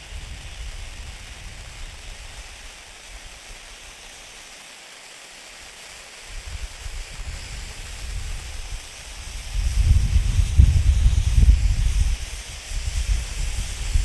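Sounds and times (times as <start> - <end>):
wind rumbling on microphone: 0.0 - 3.6, 6.3 - 14.0
firework fountain hissing: 0.0 - 14.0.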